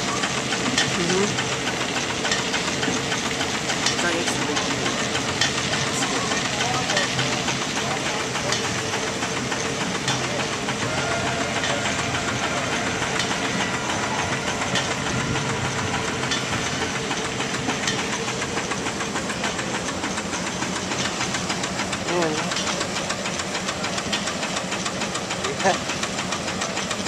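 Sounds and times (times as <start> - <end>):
steam engine mechanical beat: 0.0 - 27.0
steam hissing: 0.0 - 27.0.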